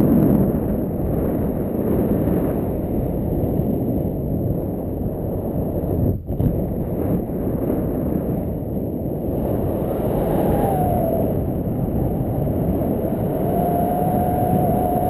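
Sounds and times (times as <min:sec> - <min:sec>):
wind rumbling over microphone: 0:00.0 - 0:15.0.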